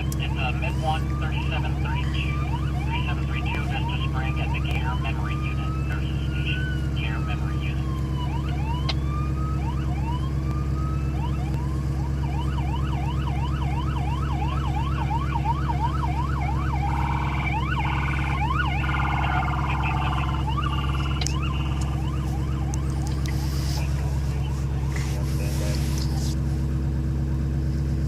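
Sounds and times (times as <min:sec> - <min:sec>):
emergency siren wailing and yelping: 0:00.0 - 0:26.4
second denser siren: 0:00.0 - 0:27.0
engine and road noise drone: 0:00.0 - 0:28.0.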